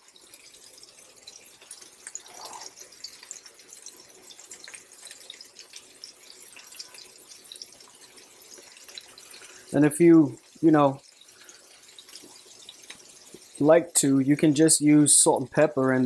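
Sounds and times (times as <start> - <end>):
burgers sizzling on a griddle: 0.0 - 16.0.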